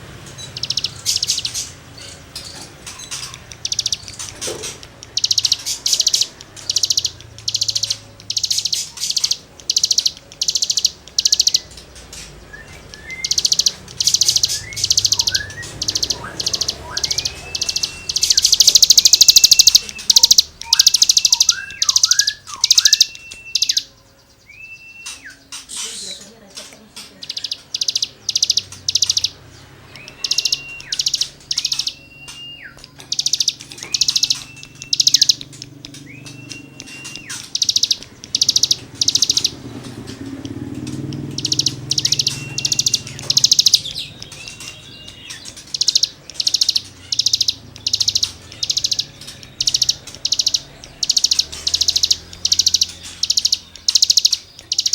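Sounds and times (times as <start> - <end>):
songbird buzzy notes: 0.0 - 54.9.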